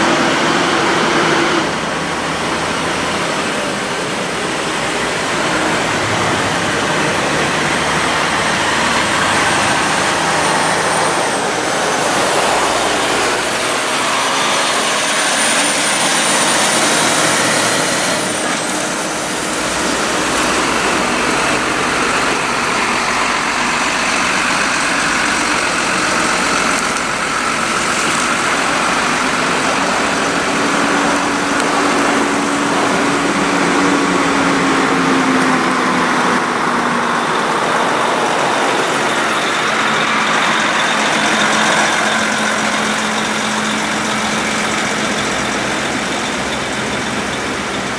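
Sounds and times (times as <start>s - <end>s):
faint shifting whines: 0.0s - 47.9s
trucks and cars passing: 0.0s - 47.9s.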